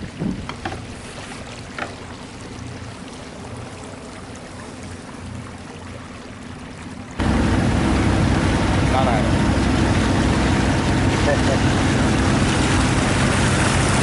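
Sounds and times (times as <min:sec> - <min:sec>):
boat motor humming: 0:00.0 - 0:14.0
water swishing: 0:00.0 - 0:14.0.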